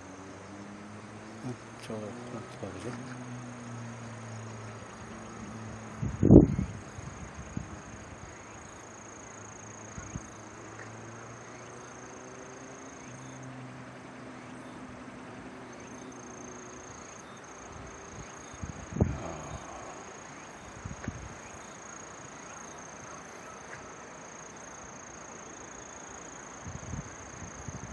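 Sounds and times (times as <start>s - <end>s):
faint low hum: 0.0s - 24.8s
high-pitched insect drone: 0.0s - 27.9s.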